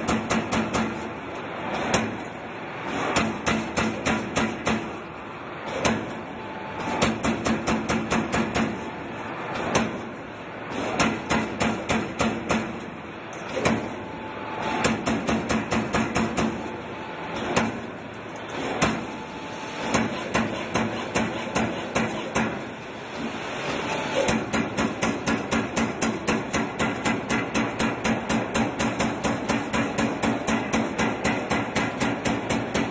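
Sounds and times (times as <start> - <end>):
punch press striking metal: 0.0 - 1.1, 2.9 - 5.0, 5.7 - 8.9, 9.6 - 14.0, 14.6 - 16.8, 17.4 - 19.2, 19.8 - 22.8, 24.2 - 32.9.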